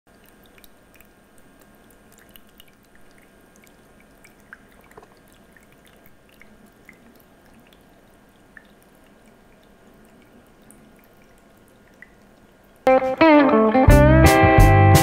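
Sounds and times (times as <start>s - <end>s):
fountain water trickling: 0.1s - 12.9s
water drips and plinks: 0.1s - 12.9s.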